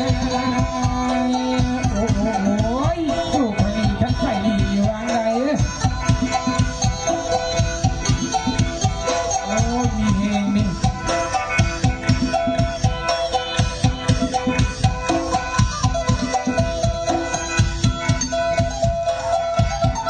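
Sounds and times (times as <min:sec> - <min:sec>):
fast drum beat: 0:00.0 - 0:20.0.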